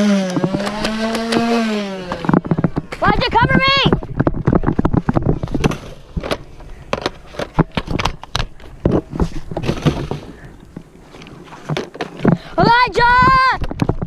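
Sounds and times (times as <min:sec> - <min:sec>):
jostling gear clatter: 0:00.4 - 0:12.5.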